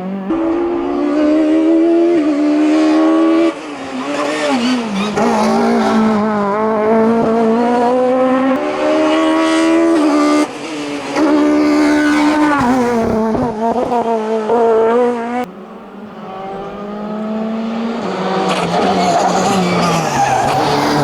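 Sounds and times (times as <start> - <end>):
racing car engine at full throttle: 0.0 - 21.0.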